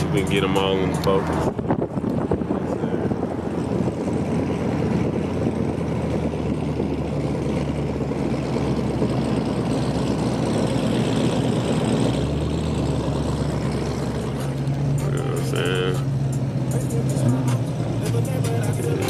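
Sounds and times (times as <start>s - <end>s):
car engine droning: 0.0s - 19.0s.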